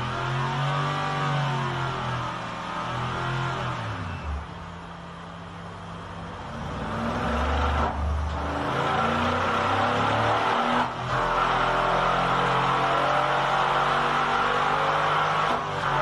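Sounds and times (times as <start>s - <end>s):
engine revving on test bench: 0.0s - 4.9s, 6.3s - 16.0s.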